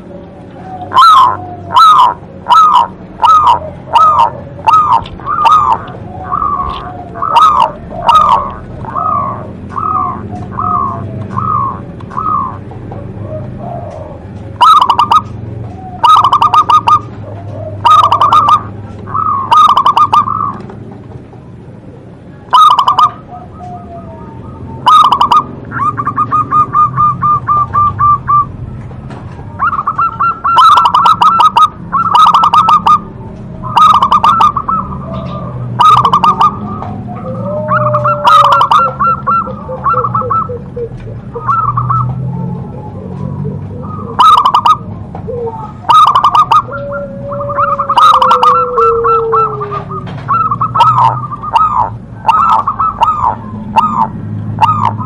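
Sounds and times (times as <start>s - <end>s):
dove cooing: 0.0s - 21.1s, 21.7s - 55.0s.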